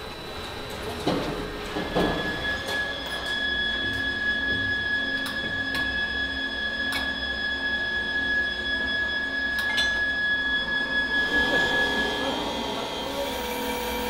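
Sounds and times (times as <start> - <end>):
lathe high-pitched whine: 0.0 - 14.0.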